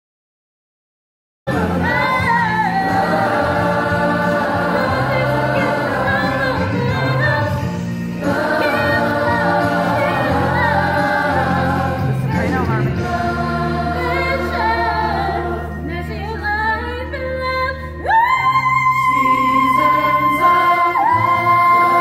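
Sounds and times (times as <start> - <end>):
choir singing in harmony: 1.5 - 17.5, 18.1 - 22.0.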